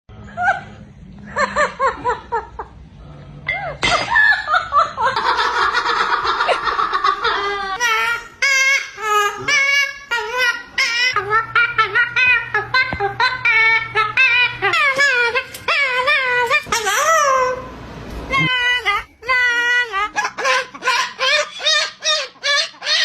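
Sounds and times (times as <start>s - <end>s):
bird imitating laughter: 3.5s - 17.6s, 18.3s - 23.0s.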